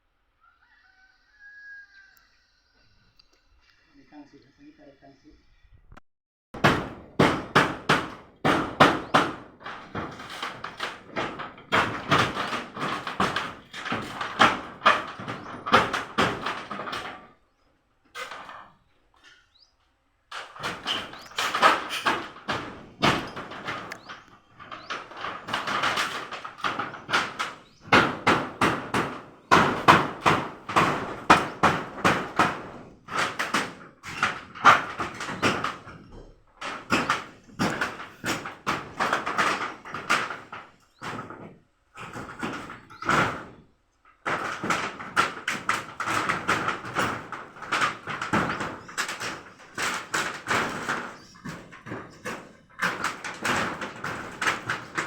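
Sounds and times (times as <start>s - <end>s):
hand tools striking wood: 6.6s - 17.4s, 20.3s - 55.0s.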